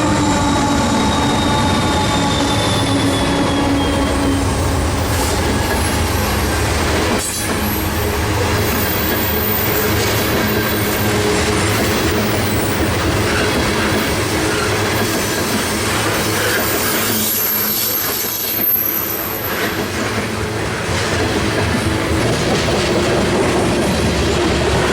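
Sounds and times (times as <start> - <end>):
freight train rolling past: 0.0 - 24.9.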